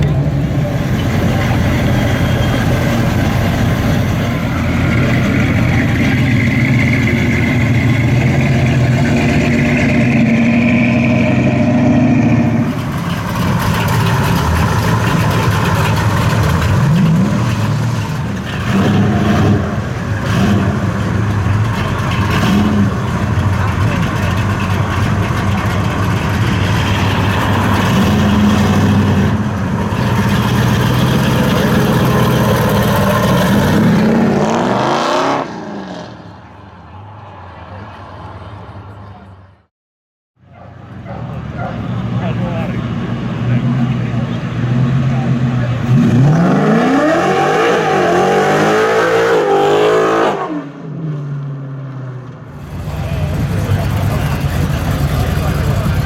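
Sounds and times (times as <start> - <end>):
car engine at high revs: 0.0 - 36.4, 41.0 - 56.0.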